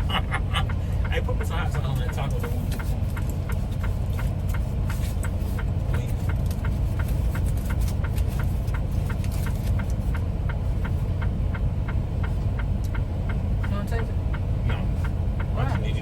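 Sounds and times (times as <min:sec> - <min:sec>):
truck engine rumble inside cab: 0:00.0 - 0:16.0.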